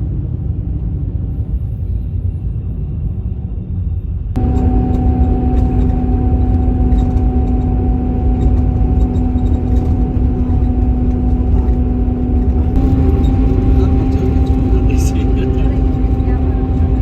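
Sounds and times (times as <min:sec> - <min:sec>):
constant hum: 0:00.0 - 0:17.0
vehicle engine and road rumble: 0:00.0 - 0:17.0.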